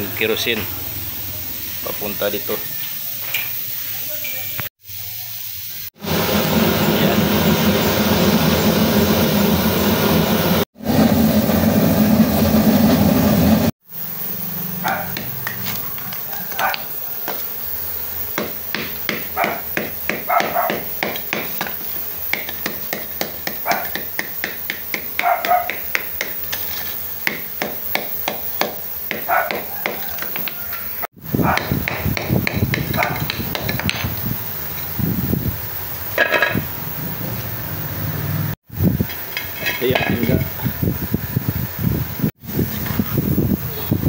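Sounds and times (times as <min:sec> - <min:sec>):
burner flame rushing hiss: 0:00.0 - 0:44.0.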